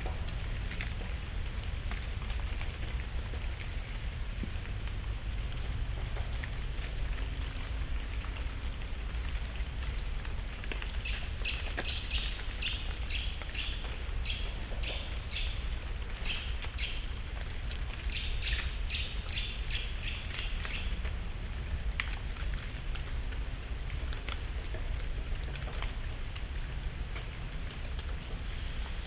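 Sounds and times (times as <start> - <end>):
falling leaves pattering: 0.0 - 29.0.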